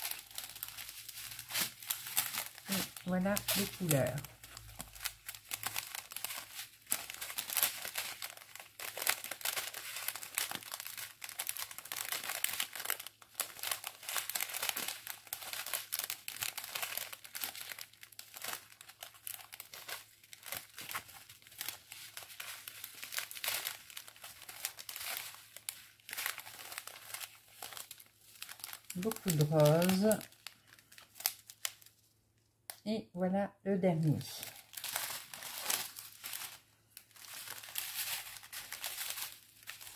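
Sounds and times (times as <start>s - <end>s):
plastic sachets crinkling: 0.0s - 32.8s, 34.1s - 39.9s.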